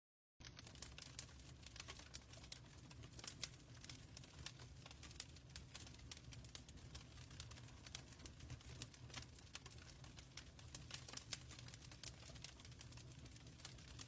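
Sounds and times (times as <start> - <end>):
fire crackling and popping: 0.4 - 14.0
low rumble of flames: 0.4 - 14.0.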